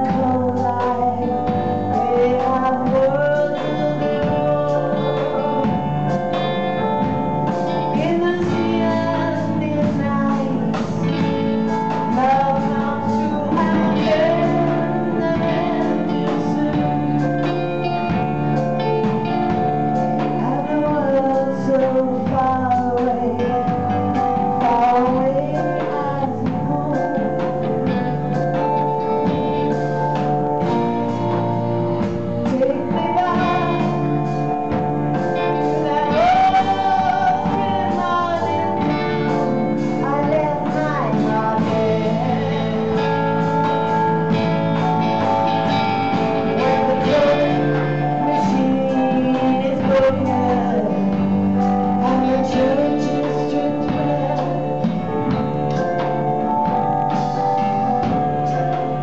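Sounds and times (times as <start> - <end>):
woman singing: 0.0 - 31.4, 32.0 - 59.0
digital piano: 0.0 - 59.0
drums: 0.0 - 59.0
electric guitar: 0.0 - 59.0.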